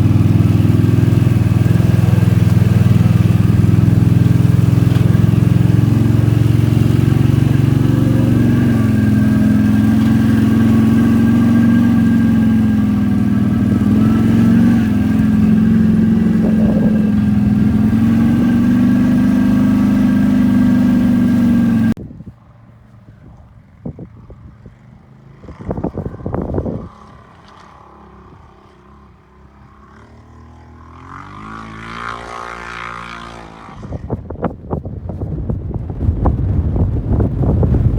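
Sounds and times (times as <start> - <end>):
quad bike engine running: 0.0 - 22.0, 23.1 - 34.6.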